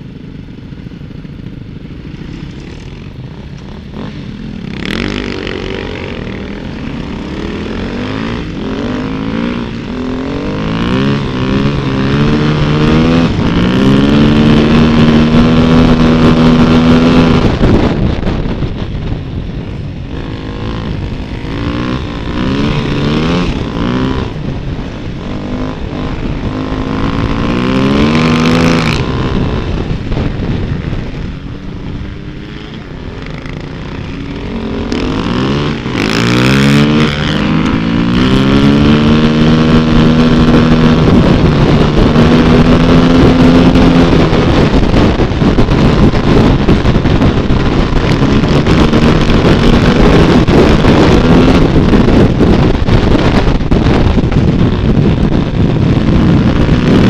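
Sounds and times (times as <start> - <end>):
dirt bike engine revving: 1.2 - 18.8, 19.6 - 57.0.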